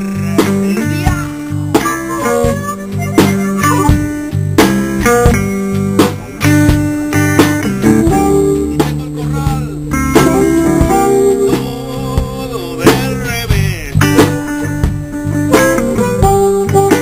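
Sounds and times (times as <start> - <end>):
electric blues band playing: 0.0 - 17.0
harmonica wailing bending notes: 0.0 - 17.0.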